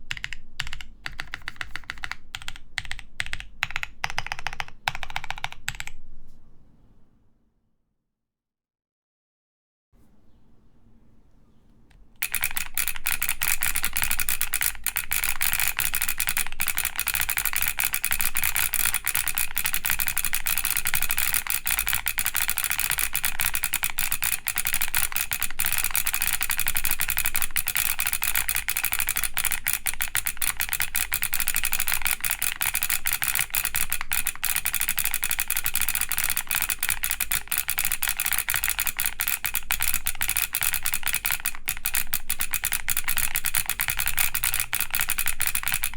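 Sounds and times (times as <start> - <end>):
fast typing on mechanical keyboard: 0.0 - 6.0, 12.2 - 45.9.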